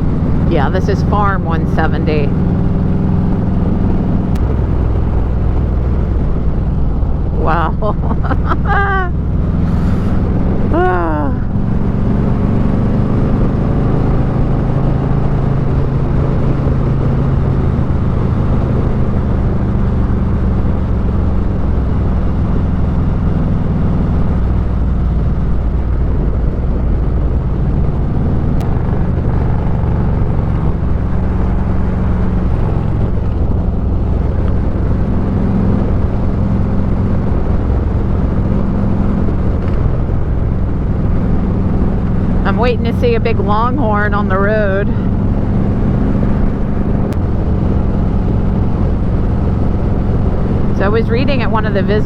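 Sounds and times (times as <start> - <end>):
motorcycle engine cruising: 0.0 - 52.0
wind and road noise: 0.0 - 52.0.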